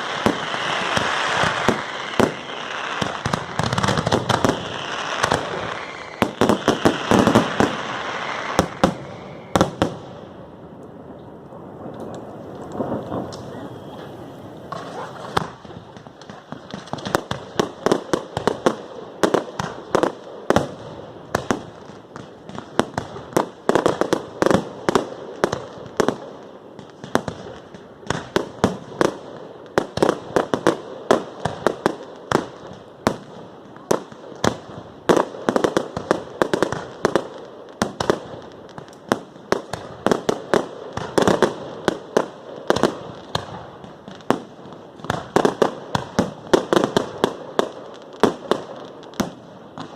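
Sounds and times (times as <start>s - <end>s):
fireworks bangs and cracks: 0.0s - 49.9s.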